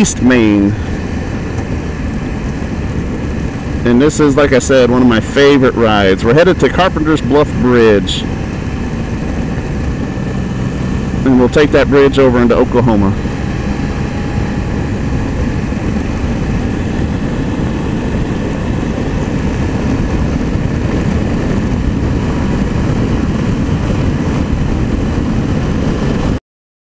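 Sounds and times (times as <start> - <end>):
three-wheeler engine cruising: 0.0 - 26.4
wind rumble on microphone: 0.0 - 26.4.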